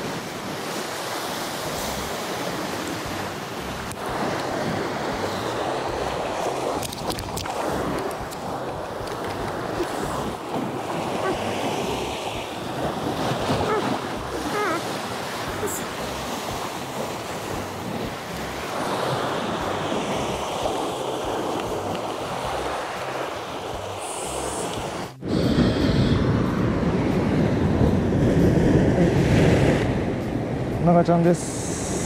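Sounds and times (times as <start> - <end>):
sea surf on rocky shore: 0.0 - 32.0
wind on microphone: 0.0 - 32.0.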